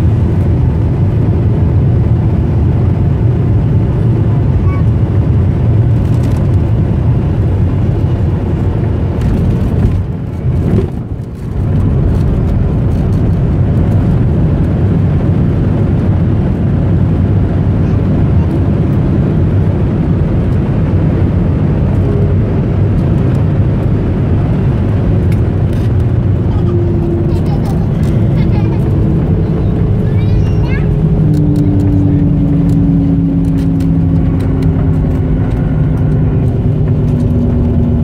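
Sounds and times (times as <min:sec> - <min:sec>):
low rumble of engines and wheels: 0:00.0 - 0:38.0.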